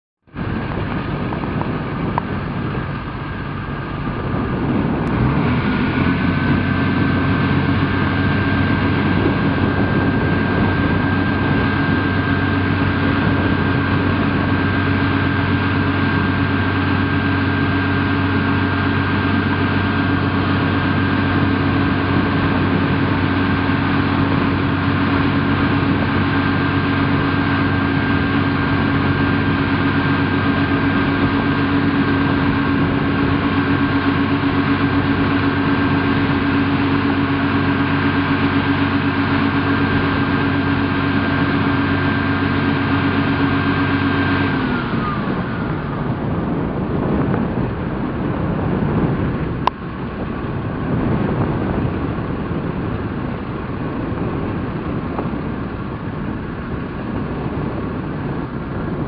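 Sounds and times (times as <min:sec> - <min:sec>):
tractor engine running: 0:00.3 - 0:59.0.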